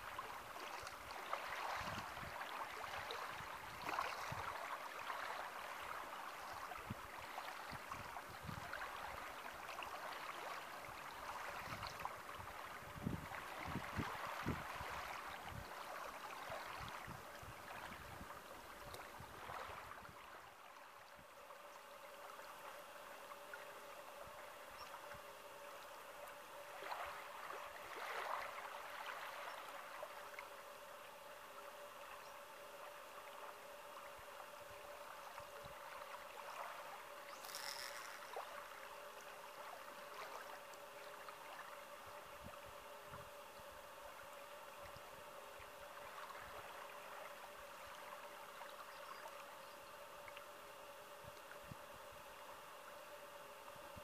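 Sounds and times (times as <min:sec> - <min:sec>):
small waves lapping on shore: 0:00.0 - 0:54.0.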